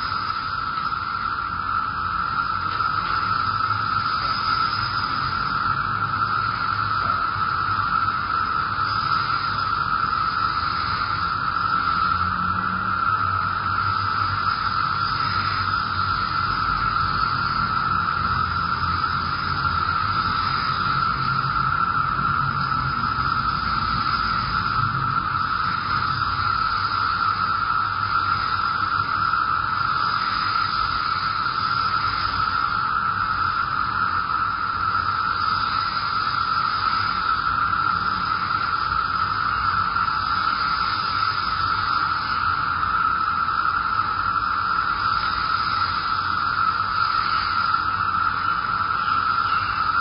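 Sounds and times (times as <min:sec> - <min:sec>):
steady hiss: 0:00.0 - 0:50.0.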